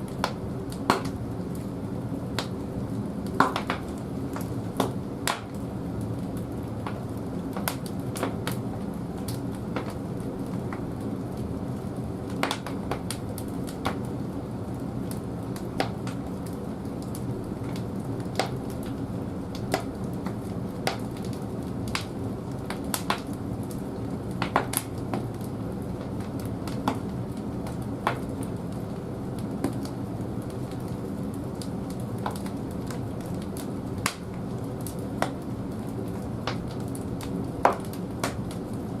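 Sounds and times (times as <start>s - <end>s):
fire rumbling: 0.0s - 39.0s
wood crackling and popping: 0.0s - 39.0s.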